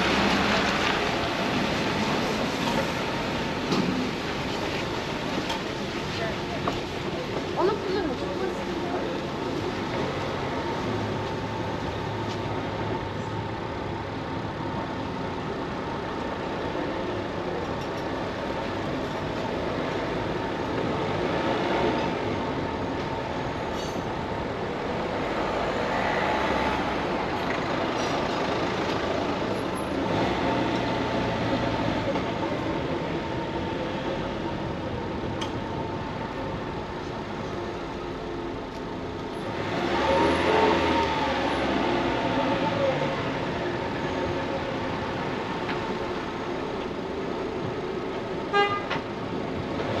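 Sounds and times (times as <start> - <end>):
outdoor noise: 0.0 - 50.0.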